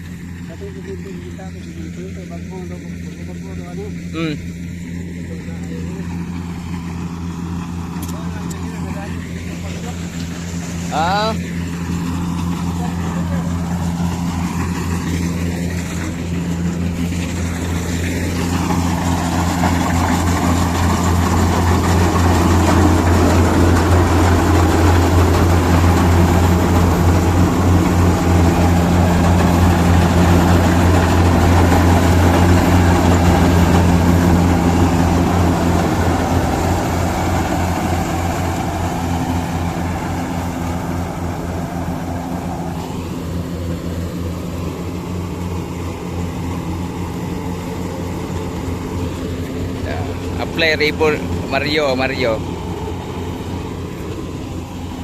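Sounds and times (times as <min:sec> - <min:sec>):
diesel engine humming: 0:00.0 - 0:55.0
rushing mechanical noise: 0:00.0 - 0:55.0.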